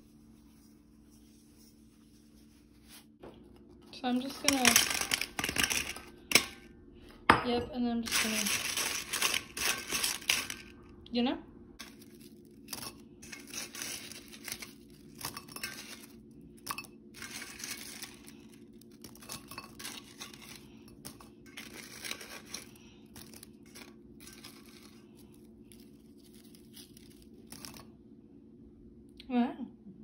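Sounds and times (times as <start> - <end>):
scraping and rustling in sugar: 0.0 - 6.3, 8.0 - 10.8, 11.8 - 27.9.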